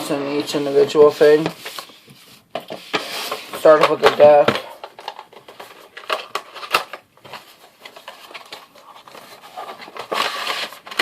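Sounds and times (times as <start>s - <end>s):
packaging crinkling and rustling: 0.4s - 11.0s.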